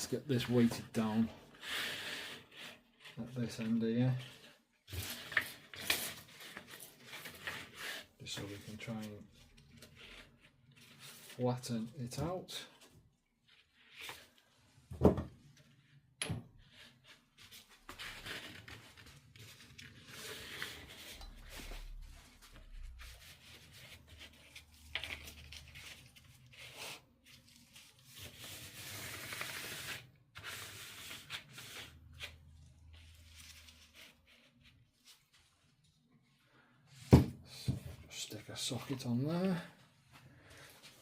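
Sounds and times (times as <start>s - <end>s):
paper rustling and scraping: 0.0s - 14.8s, 16.6s - 36.1s, 36.9s - 41.0s.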